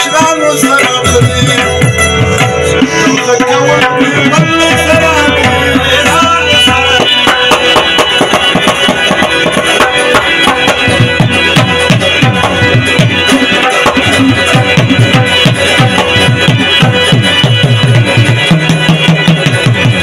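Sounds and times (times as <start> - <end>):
harmoniums: 0.0 - 20.0
rubab: 0.0 - 20.0
tabla drumming: 0.0 - 20.0.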